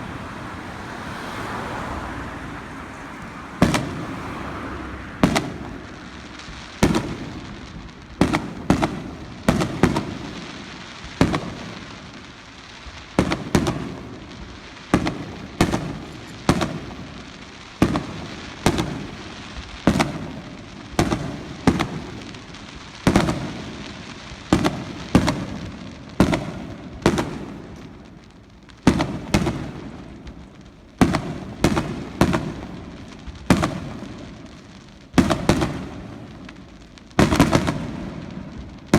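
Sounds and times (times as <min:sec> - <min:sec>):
fireworks bursting: 0:00.0 - 0:38.9
rolling echo: 0:00.0 - 0:38.9.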